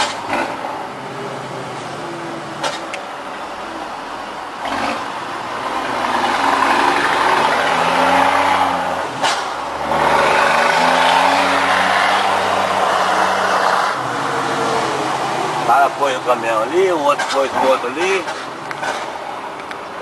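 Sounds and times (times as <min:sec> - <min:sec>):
diesel truck engine accelerating: 0:00.0 - 0:20.0.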